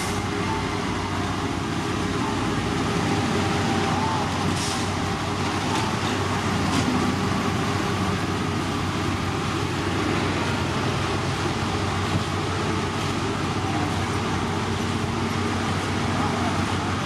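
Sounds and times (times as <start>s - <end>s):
heavy machinery engine drone: 0.0s - 17.0s.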